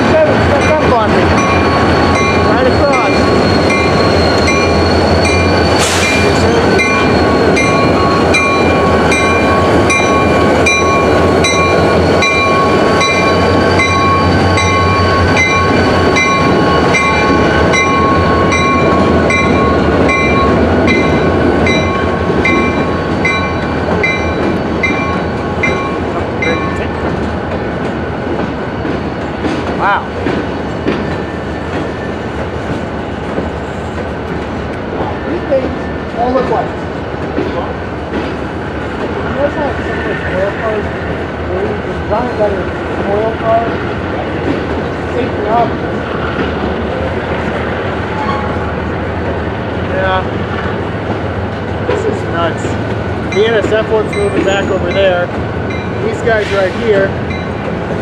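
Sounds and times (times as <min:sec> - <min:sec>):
diesel locomotive engine rumble: 0:00.0 - 0:58.0
train wheels clicking: 0:00.0 - 0:58.0.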